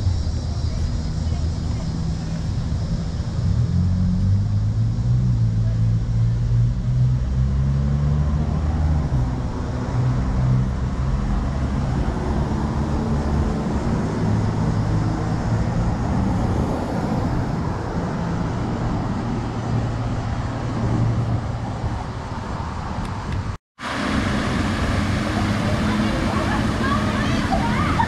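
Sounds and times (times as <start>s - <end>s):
car engines running: 0.0s - 28.0s
vehicles passing: 0.0s - 28.0s.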